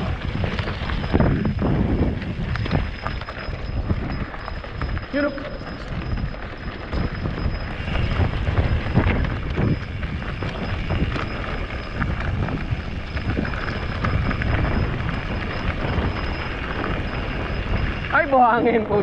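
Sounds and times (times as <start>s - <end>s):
bike knocks and rattles: 0.0s - 19.0s
wind buffeting microphone: 0.0s - 19.0s.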